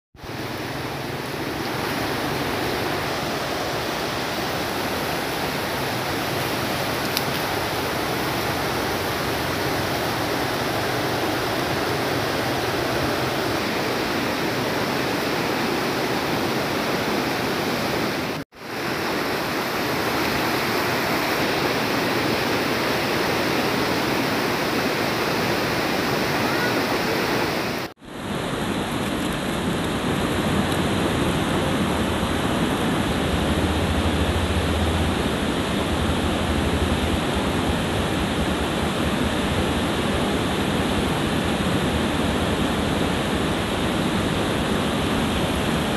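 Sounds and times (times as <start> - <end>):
river flowing over stones: 0.2 - 45.9.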